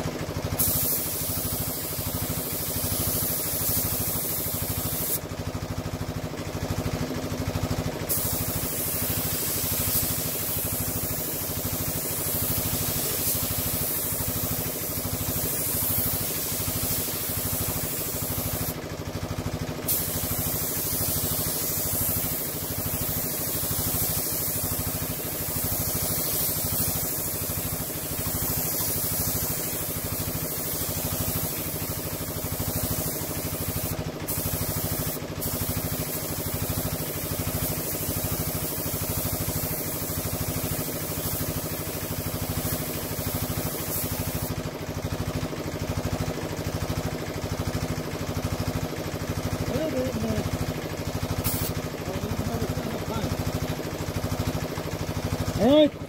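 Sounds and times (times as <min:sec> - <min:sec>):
air compressor running: 0:00.0 - 0:56.0
paint spray gun hissing: 0:00.0 - 0:56.0.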